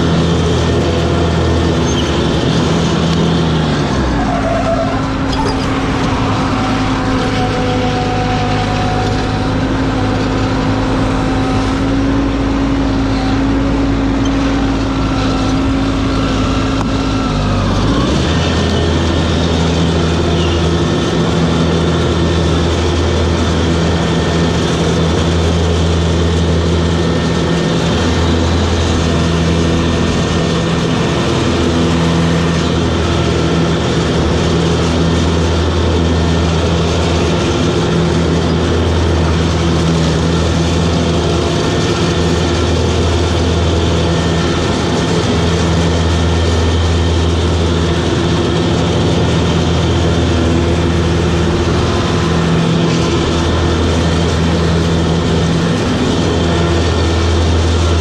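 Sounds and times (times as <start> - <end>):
ride-on mower engine running: 0.0 - 58.0.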